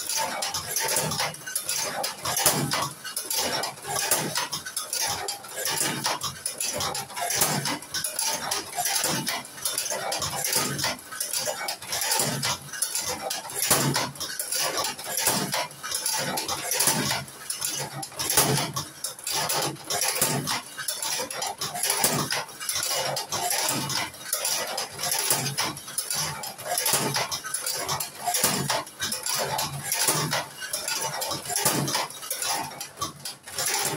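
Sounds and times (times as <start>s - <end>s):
metallic clacks of rolling machine: 0.0s - 33.9s.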